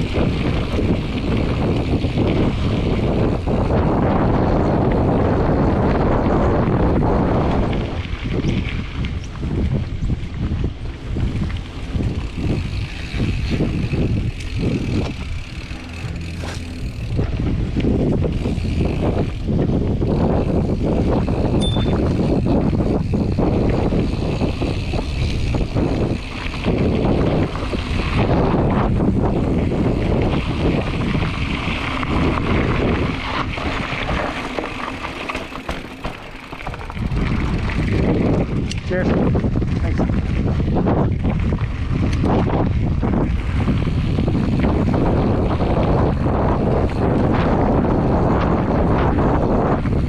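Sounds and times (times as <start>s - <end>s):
bicycle tyres rolling on dirt: 0.0s - 50.0s
bike knocks and rattles: 0.0s - 50.0s
wind on microphone: 0.0s - 50.0s.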